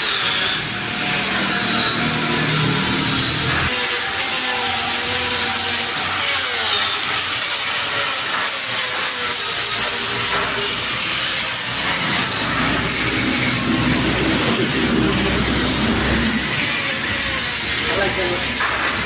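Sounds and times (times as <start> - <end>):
power tool on metal: 0.0 - 19.0.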